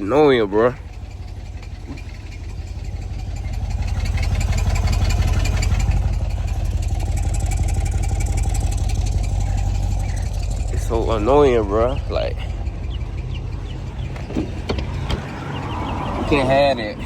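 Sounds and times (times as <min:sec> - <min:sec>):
car engine rumbling: 0:00.0 - 0:17.0
light rapid exhaust rattle: 0:00.0 - 0:17.0.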